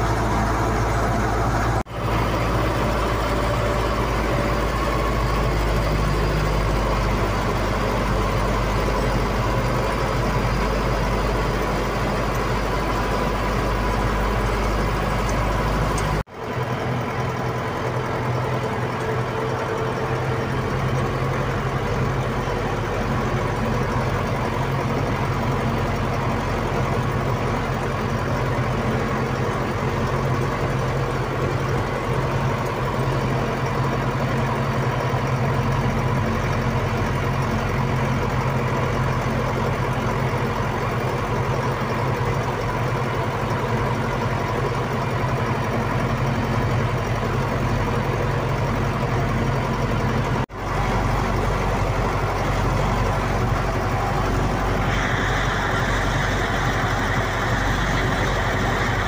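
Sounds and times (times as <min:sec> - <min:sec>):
snow plough engine running: 0:00.0 - 0:59.0.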